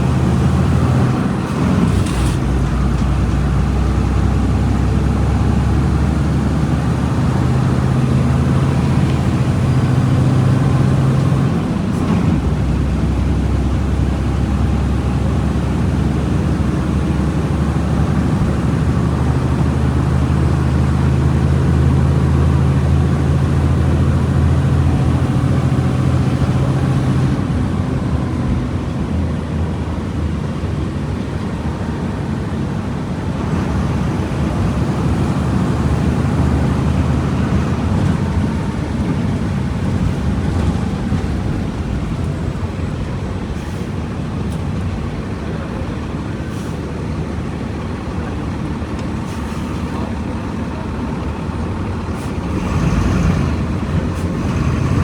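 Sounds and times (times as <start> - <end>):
diesel bus engine droning: 0.0 - 55.0.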